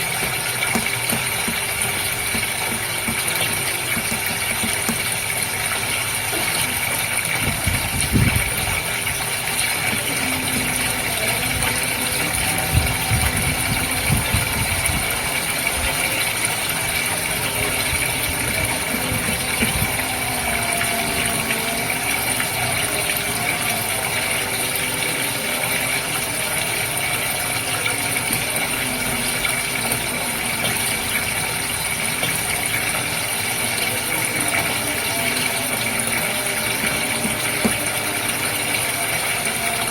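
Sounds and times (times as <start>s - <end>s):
aquarium pump and filter running: 0.0s - 39.9s
water flowing and splashing: 0.0s - 39.9s.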